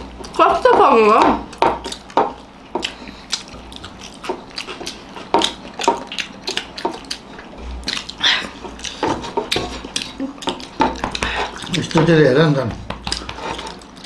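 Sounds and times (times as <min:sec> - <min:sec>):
wet eating noises: 0:00.0 - 0:14.0.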